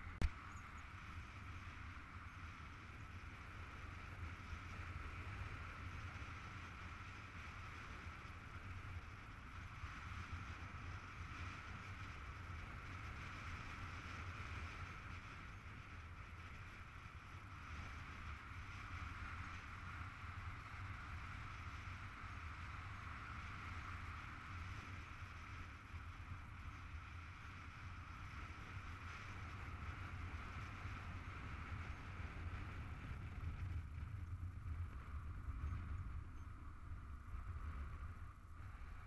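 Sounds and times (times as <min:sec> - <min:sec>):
wind rushing over camera: 0:00.0 - 0:39.0.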